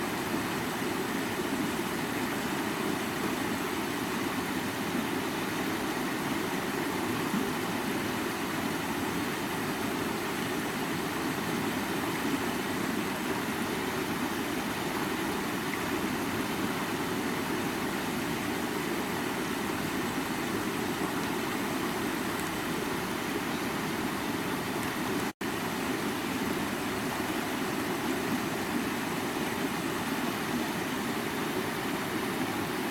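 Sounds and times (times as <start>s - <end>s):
stream running over rocks: 0.0s - 32.9s.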